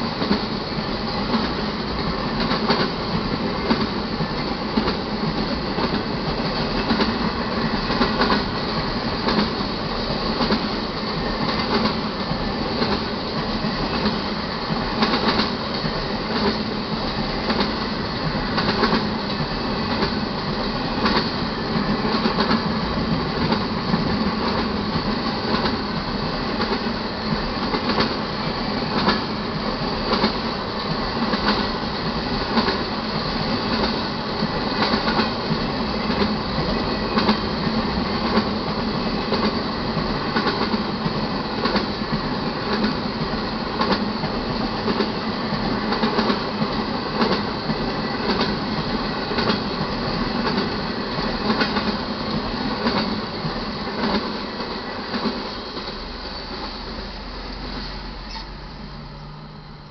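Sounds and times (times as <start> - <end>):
steel wheels rumbling on rail: 0.0 - 59.9
wheels clacking on rail joints: 1.2 - 56.9.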